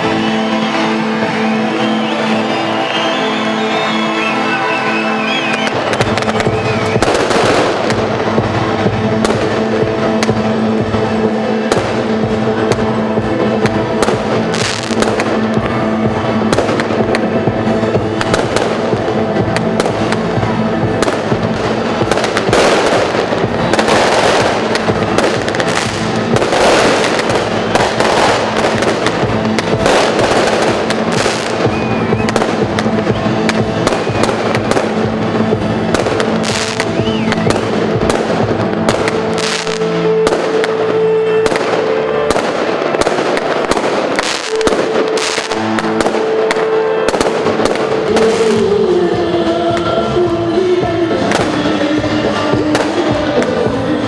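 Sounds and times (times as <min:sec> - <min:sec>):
fireworks bangs and crackles: 0:00.0 - 0:49.3, 0:51.1 - 0:54.0
music playing: 0:00.0 - 0:54.0.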